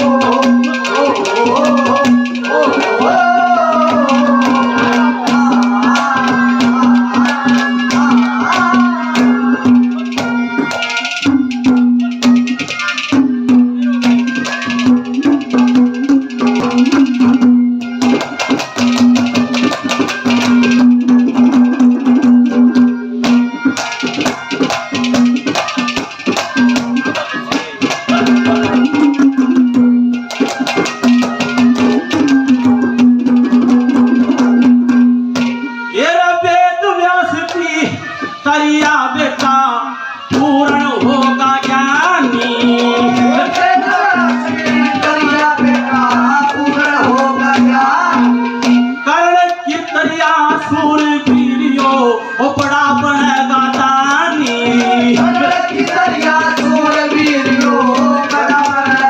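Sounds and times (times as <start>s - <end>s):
rattling percussion: 0.0s - 36.0s, 40.2s - 59.0s
hand drums: 0.0s - 59.0s.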